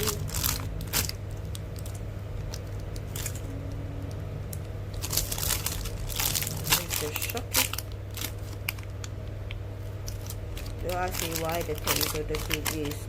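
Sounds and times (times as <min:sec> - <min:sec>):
plastic packaging rustling: 0:00.0 - 0:03.6, 0:04.9 - 0:13.0
steady low hum: 0:00.0 - 0:13.0.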